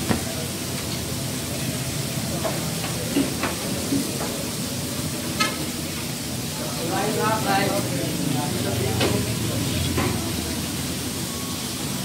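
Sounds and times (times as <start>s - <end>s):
charcoal grill hissing: 0.0s - 12.0s.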